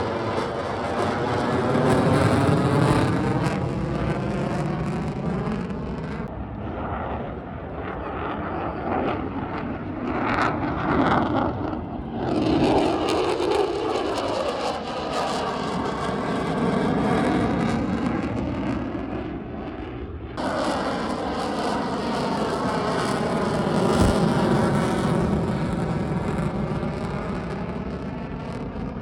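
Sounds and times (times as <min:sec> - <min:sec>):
aircraft flying past: 0:00.0 - 0:29.0.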